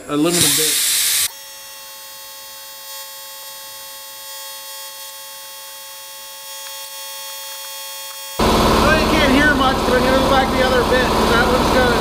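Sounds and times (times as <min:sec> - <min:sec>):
electrical whine of shop equipment: 0:00.0 - 0:12.0.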